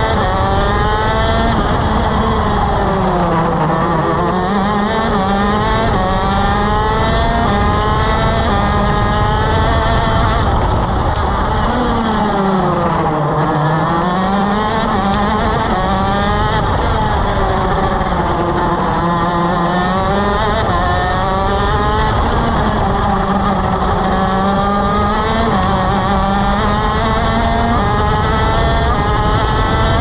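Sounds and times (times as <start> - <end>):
kart engine revving: 0.0 - 30.0.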